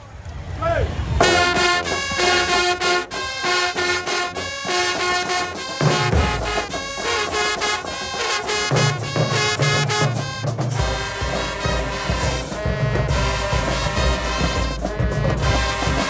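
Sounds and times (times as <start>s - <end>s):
brass band playing: 1.2s - 16.0s.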